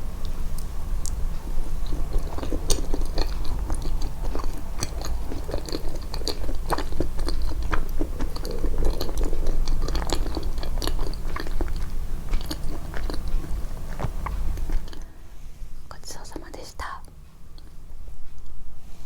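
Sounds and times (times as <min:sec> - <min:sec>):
steady low hum: 0:00.0 - 0:19.0
close-miked chewing: 0:00.2 - 0:15.2, 0:16.0 - 0:17.9.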